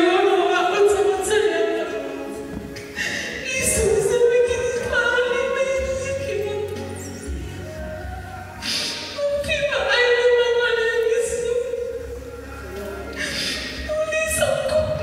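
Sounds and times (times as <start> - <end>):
low steady accompaniment: 0.0 - 15.0
person singing gospel song: 0.0 - 15.0.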